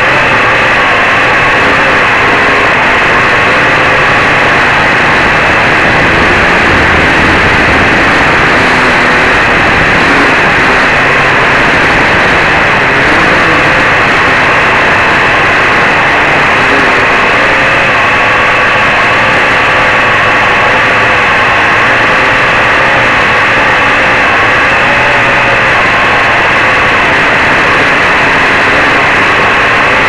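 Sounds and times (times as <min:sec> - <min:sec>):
quadcopter motors whirring: 0:00.0 - 0:30.0.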